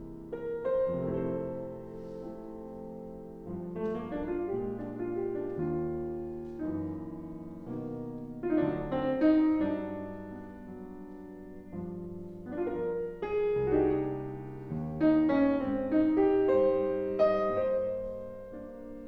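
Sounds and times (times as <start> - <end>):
solo piano chords: 0.0 - 19.0.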